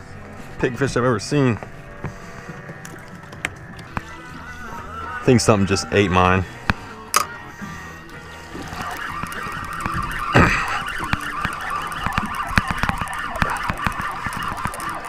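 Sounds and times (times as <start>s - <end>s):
fishing reel whirring and clicking: 2.4s - 15.0s.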